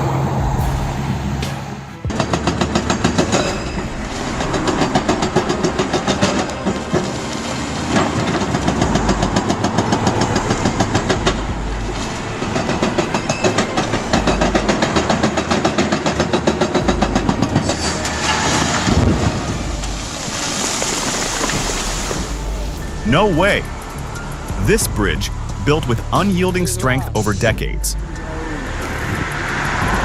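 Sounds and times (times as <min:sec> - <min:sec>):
heavy machine rhythmic clatter: 0:00.5 - 0:27.4.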